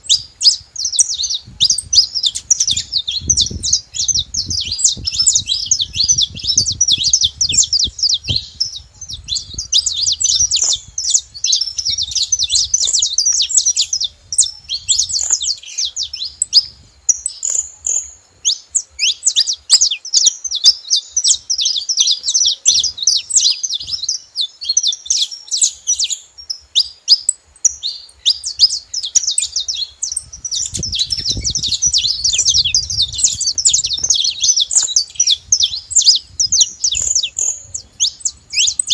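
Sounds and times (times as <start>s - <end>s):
finches singing and chirping: 0.0s - 38.9s.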